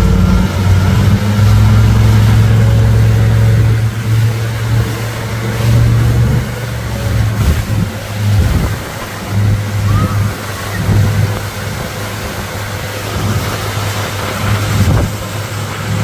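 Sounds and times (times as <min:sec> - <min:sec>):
churning wake rushing: 0:00.0 - 0:16.0
outboard motor droning: 0:00.0 - 0:16.0.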